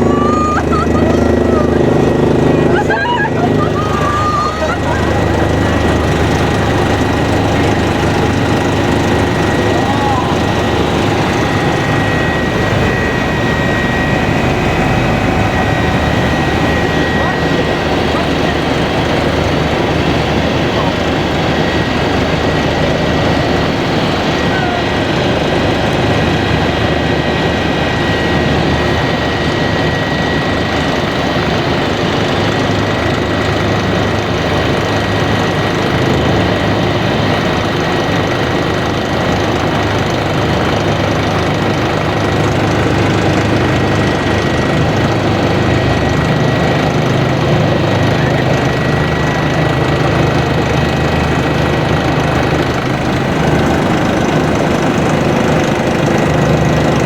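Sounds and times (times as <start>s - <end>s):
helicopter rotor and engines: 0.0s - 57.0s.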